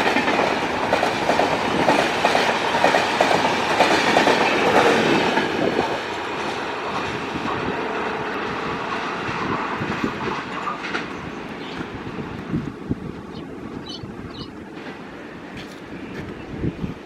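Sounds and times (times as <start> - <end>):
train wheels clattering over rails: 0.0 - 16.5.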